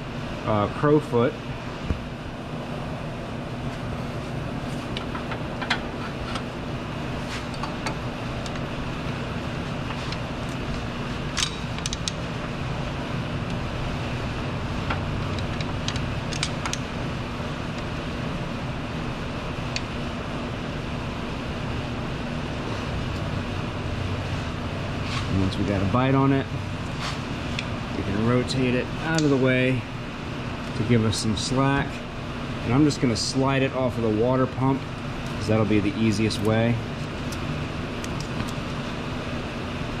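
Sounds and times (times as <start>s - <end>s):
mechanical drone with low hum: 0.0s - 40.0s.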